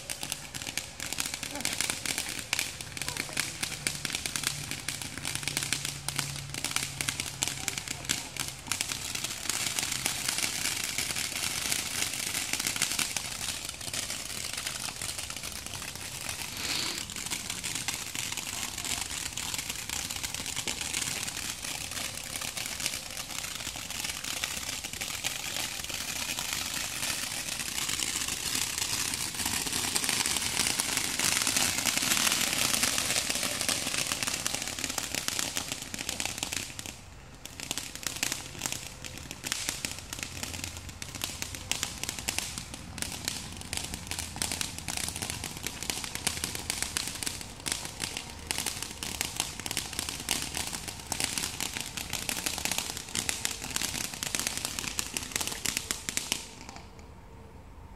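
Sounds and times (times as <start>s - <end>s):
firework fountain hissing crackle: 0.0s - 57.5s.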